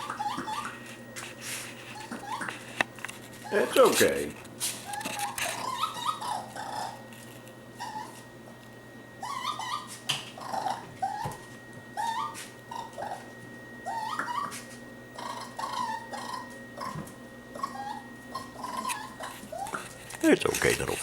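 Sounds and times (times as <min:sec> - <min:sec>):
raccoon whimpering cries: 0:00.0 - 0:00.8, 0:01.9 - 0:02.6, 0:03.4 - 0:07.0, 0:07.7 - 0:08.2, 0:09.2 - 0:21.0.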